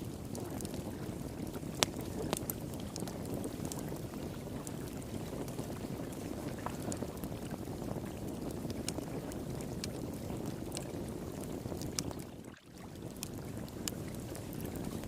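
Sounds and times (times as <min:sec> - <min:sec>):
flowing water: 0:00.0 - 0:15.0
wood fire crackling and popping: 0:00.0 - 0:15.0.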